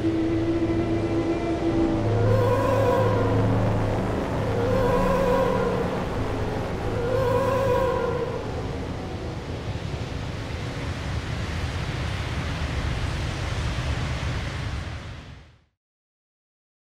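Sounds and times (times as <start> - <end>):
rushing wind: 0.0 - 15.6.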